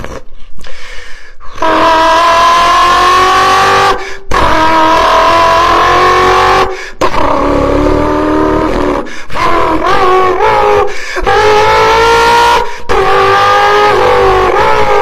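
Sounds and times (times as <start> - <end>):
beatboxer imitating car engine: 1.6 - 15.0.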